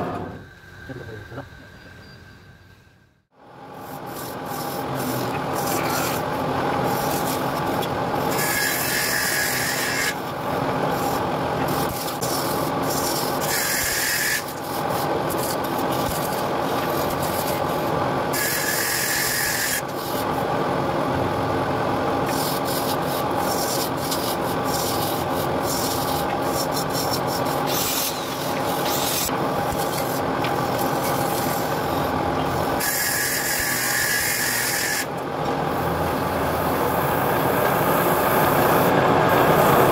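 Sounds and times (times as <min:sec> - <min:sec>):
lathe motor hum: 0:03.4 - 0:39.9.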